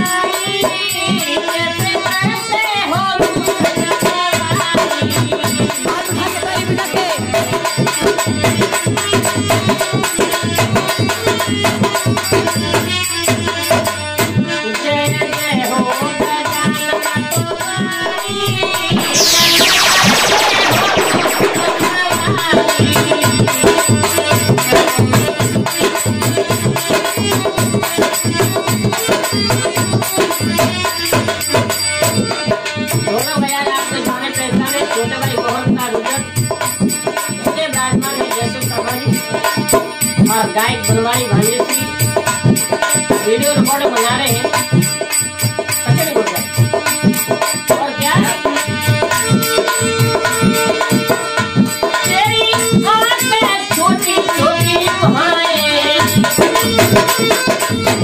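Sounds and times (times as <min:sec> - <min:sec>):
fast dholak drumming: 0:00.0 - 0:58.0.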